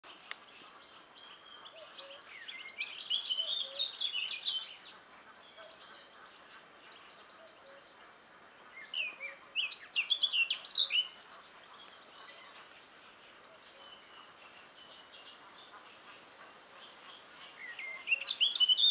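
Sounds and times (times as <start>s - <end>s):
nightingale whistles and trills: 0.1s - 6.3s, 8.8s - 12.8s, 13.5s - 18.9s.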